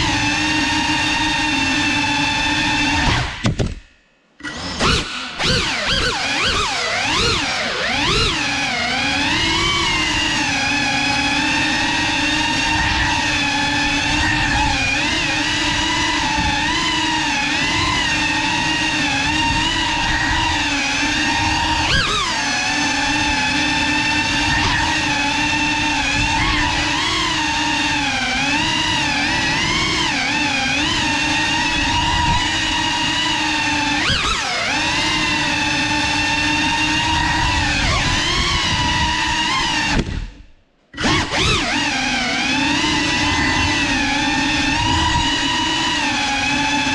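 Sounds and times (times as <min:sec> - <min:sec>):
drone motors whining: 0:00.0 - 0:46.9.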